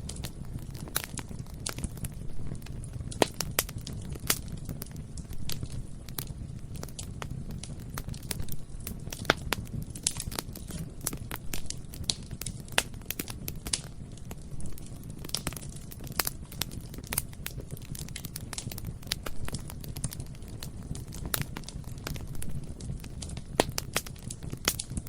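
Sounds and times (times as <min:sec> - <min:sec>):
burning wood crackling and popping: 0:00.0 - 0:25.0
low rumble of flame: 0:00.0 - 0:25.0.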